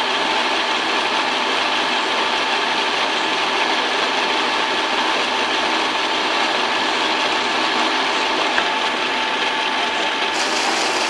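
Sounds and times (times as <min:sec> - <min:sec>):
lathe running with whine: 0:00.0 - 0:11.0.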